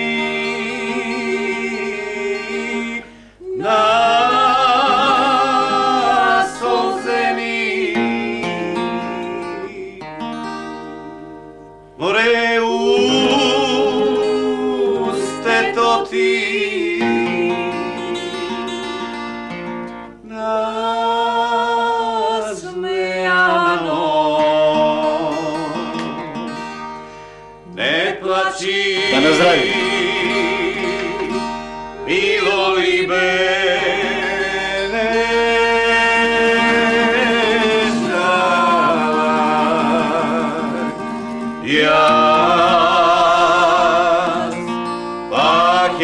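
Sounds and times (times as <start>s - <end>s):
person singing slow song: 0.0s - 18.9s, 27.6s - 46.0s
acoustic guitar: 0.0s - 46.0s.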